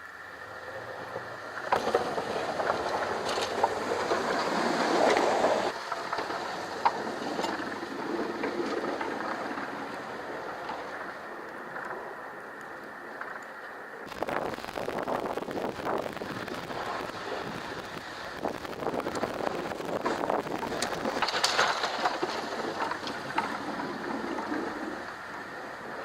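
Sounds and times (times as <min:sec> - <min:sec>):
snowplow scraping snow: 0:00.2 - 0:26.0.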